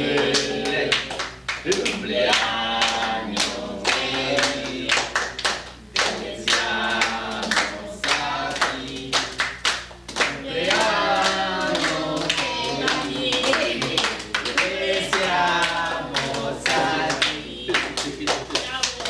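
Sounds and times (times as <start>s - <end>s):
group singing birthday song: 0.0s - 19.0s
hand-clapping: 0.1s - 19.0s.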